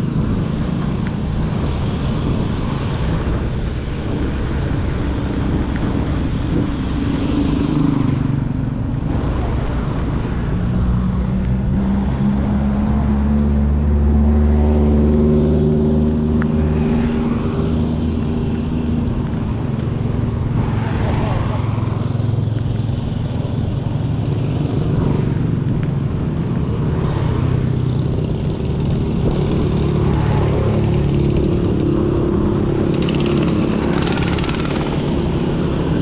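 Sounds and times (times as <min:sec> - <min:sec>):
road and wind noise: 0:00.0 - 0:36.0.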